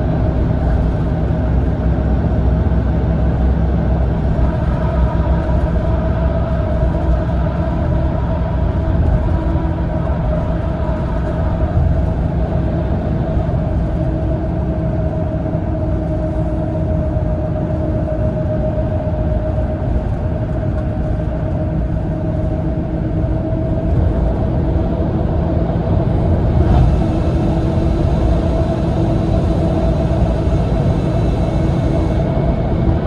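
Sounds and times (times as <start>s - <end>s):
bus engine and tyres drone: 0.0s - 33.0s
steady whine: 0.0s - 33.0s.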